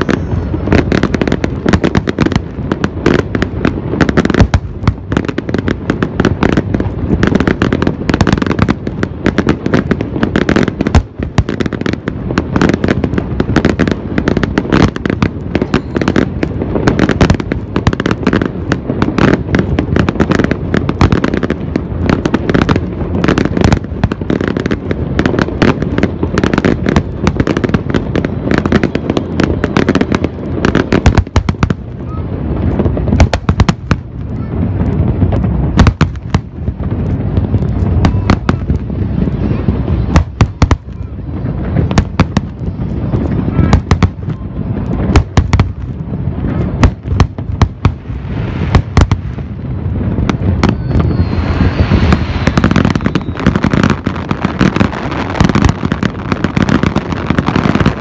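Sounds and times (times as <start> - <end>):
heavy low rumble: 0.0 - 57.4
fireworks bursts and bangs: 0.0 - 58.0
fireworks crackling: 0.0 - 58.0.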